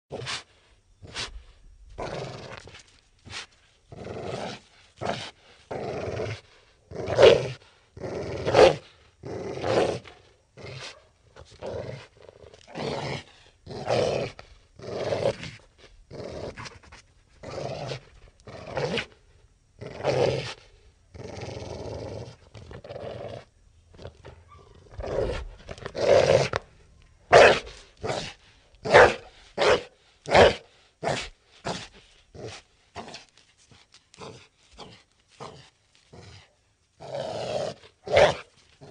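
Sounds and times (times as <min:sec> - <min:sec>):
wolf growling and snarling: 0:02.0 - 0:02.8, 0:03.9 - 0:19.2, 0:19.8 - 0:26.7, 0:27.3 - 0:33.4, 0:34.1 - 0:38.9.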